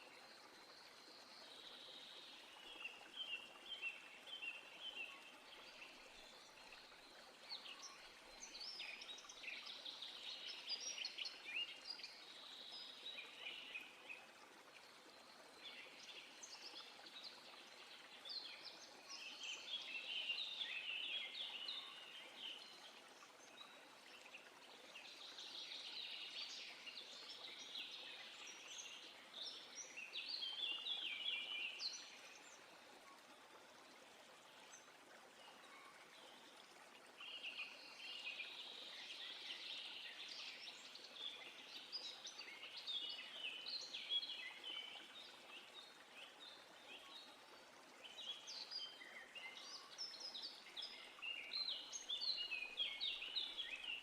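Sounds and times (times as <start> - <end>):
faint steady hiss: 0.0 - 54.0
songbirds chirping: 0.0 - 54.0.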